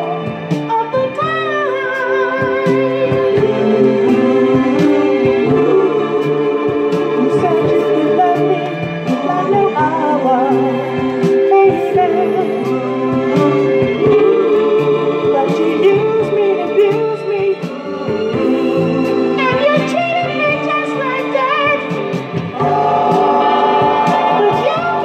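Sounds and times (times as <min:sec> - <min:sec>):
band playing held chords: 0:02.7 - 0:25.0.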